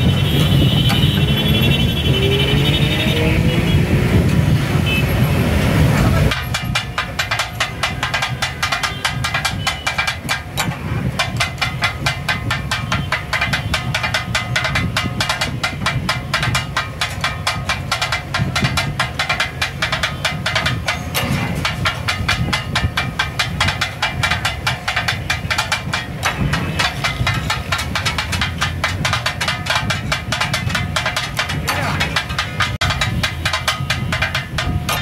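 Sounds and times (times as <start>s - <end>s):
metal spatulas clanging on griddle: 6.3s - 35.0s.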